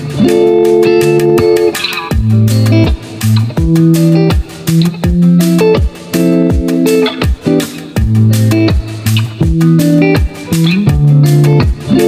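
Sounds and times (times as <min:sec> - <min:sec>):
plucked instrumental music with bass: 0:00.0 - 0:12.0.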